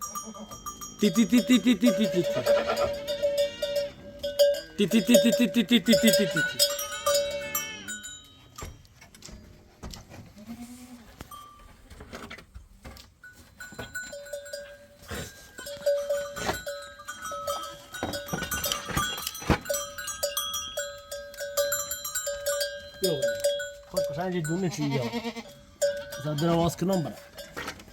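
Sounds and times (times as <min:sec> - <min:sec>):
animal bells clanking: 0:00.0 - 0:09.7, 0:11.2 - 0:12.1, 0:13.0 - 0:27.9.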